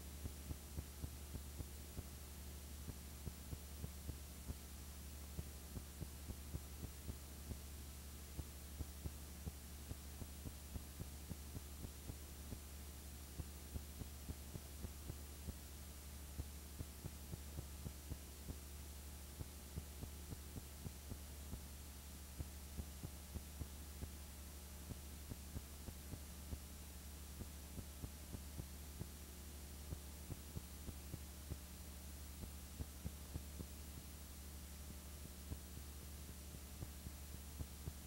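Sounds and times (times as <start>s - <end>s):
faint irregular clicks: 0.0s - 38.0s
low electrical hum: 0.0s - 38.0s.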